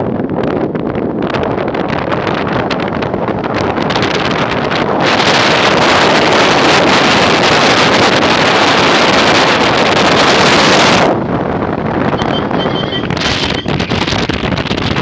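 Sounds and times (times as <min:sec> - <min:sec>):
vehicle engine and road noise: 0:00.0 - 0:15.0
wind buffeting microphone: 0:00.0 - 0:15.0.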